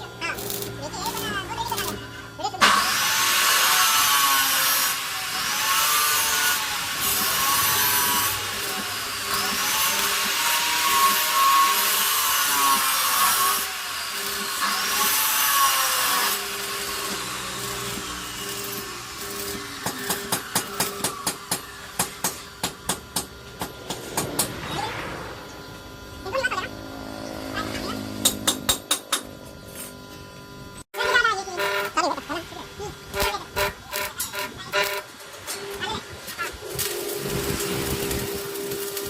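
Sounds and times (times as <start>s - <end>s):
angle grinder grinding steel: 0.0s - 39.0s.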